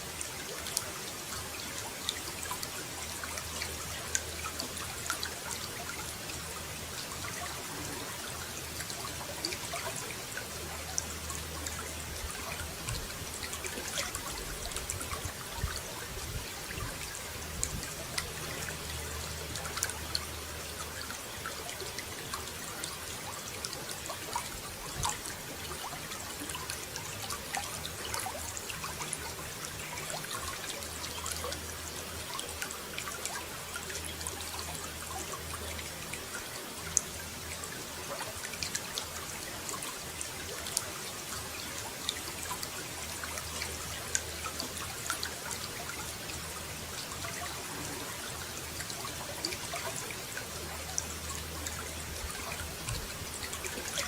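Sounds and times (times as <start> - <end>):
small splashes and drips: 0.0 - 54.0
water running and trickling: 0.0 - 54.0.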